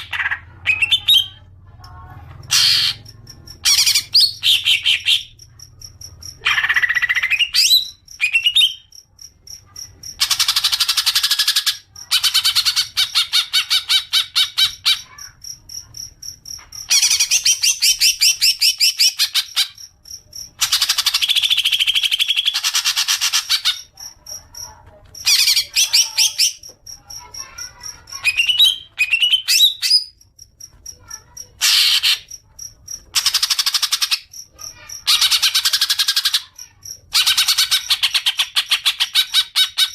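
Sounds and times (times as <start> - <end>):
bird chattering song: 0.0 - 9.0, 9.7 - 15.6, 16.7 - 30.2, 31.0 - 39.9.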